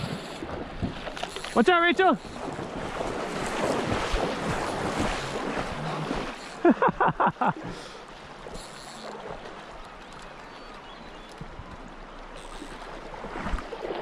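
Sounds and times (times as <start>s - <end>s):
water splashing and rushing: 0.0s - 14.0s.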